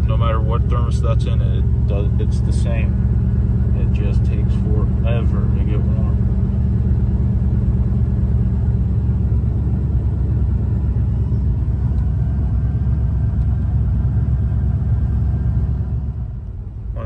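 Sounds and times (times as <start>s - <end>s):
engine idling with deep rumble: 0.0s - 17.0s.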